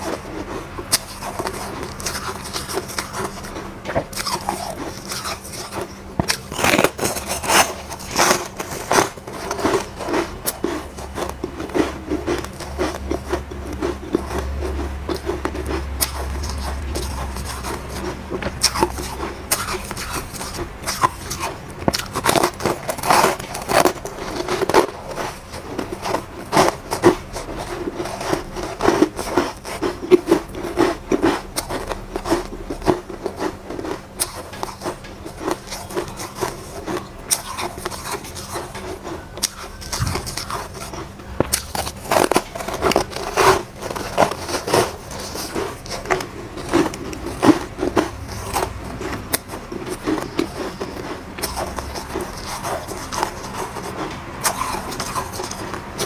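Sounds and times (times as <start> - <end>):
chewing crunchy ice: 0.0 - 56.0.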